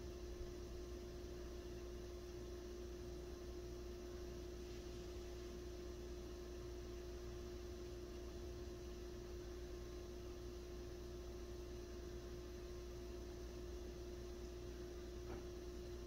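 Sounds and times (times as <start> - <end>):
constant mid-pitched tone: 0.0 - 16.0.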